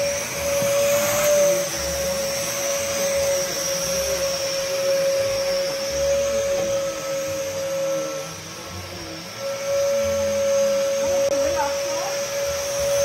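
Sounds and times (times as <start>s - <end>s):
vacuum cleaner whining: 0.0s - 13.0s.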